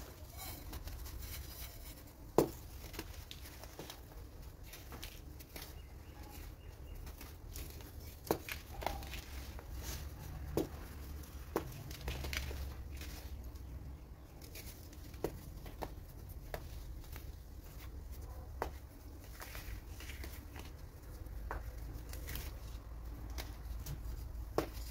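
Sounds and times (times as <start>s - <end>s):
powder crunching and crackling: 0.0s - 24.9s.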